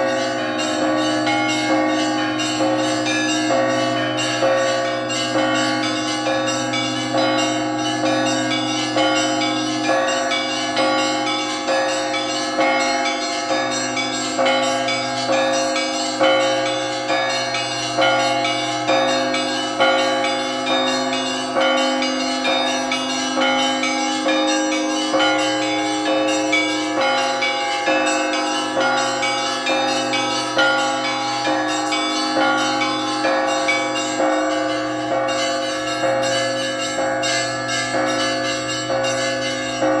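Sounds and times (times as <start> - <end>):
church bells pealing: 0.0 - 40.0.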